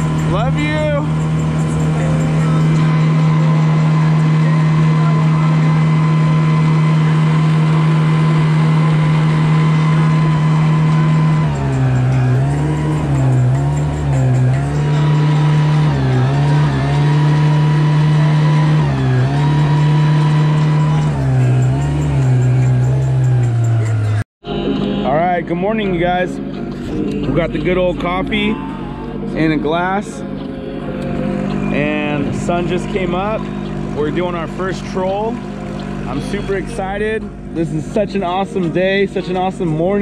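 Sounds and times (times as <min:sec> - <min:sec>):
outboard motor drone: 0:00.0 - 0:40.0.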